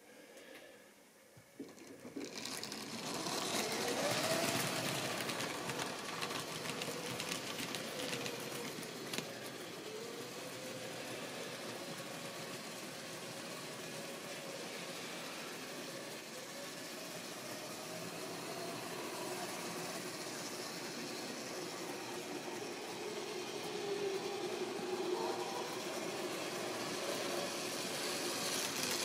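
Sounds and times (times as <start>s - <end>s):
model train motor whirring: 1.6s - 29.0s
wheels clicking over rail joints: 1.6s - 29.0s.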